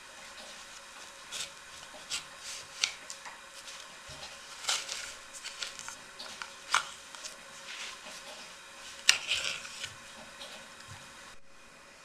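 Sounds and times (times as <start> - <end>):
hands rubbing felt hat: 0.0 - 11.1.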